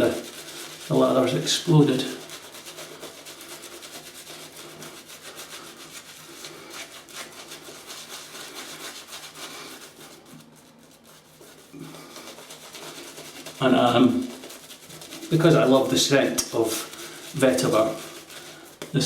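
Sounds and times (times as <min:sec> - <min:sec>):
shaving brush swishing lather: 0:00.0 - 0:19.0.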